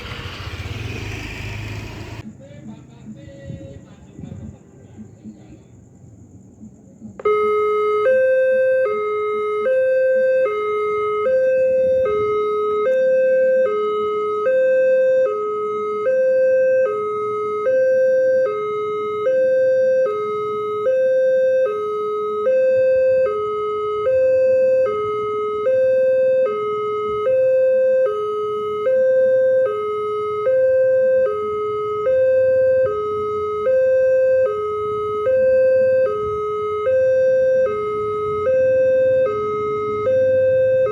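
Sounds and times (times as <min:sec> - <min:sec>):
level crossing two-tone alarm: 0:07.2 - 0:40.9.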